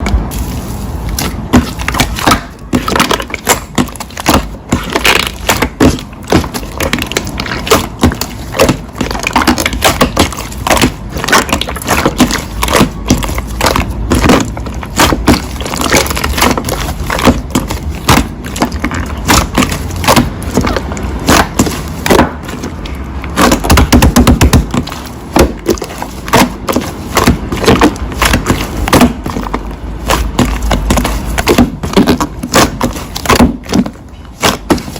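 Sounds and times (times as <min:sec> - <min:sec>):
slime crackling and squelching: 0:00.0 - 0:34.9.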